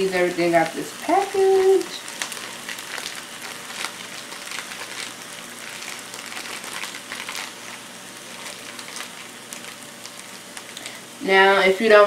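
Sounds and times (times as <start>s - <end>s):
food sizzling in a pan: 0.0s - 12.0s
plastic pouch crinkling: 0.6s - 11.1s.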